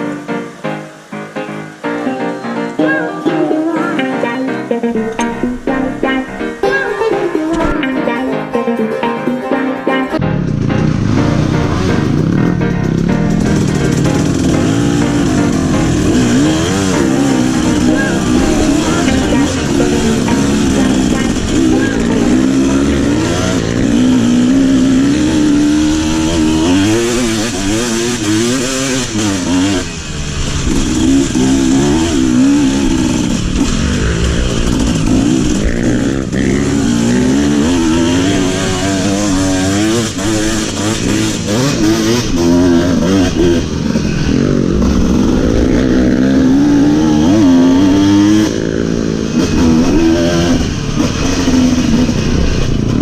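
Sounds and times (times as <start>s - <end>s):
motorcycle engine revving: 10.2s - 53.0s.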